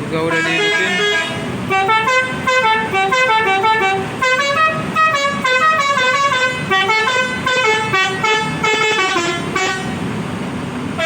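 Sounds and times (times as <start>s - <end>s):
musical air horn melody: 0.3s - 10.0s.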